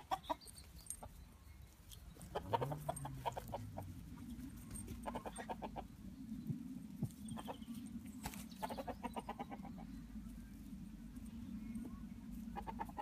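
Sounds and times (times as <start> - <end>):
chickens clucking: 0.0 - 1.2, 2.1 - 10.6, 11.8 - 13.0
low hum: 0.6 - 8.7, 9.6 - 12.9.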